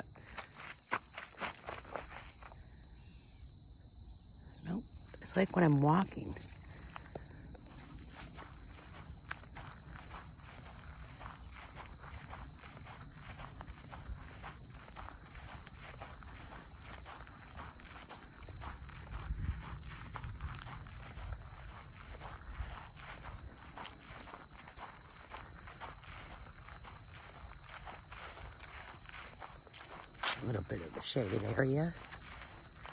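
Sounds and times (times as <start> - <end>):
footsteps crunching on a trail: 0.0 - 2.6, 6.0 - 32.9
crickets chirping: 0.0 - 32.9.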